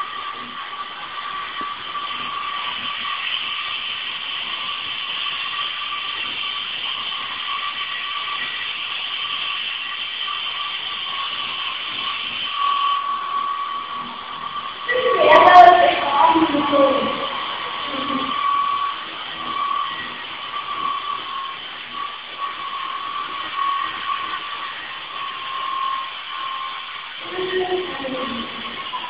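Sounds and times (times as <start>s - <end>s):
rotor hiss: 0.0s - 29.0s
toy helicopter motor whine: 0.0s - 29.0s.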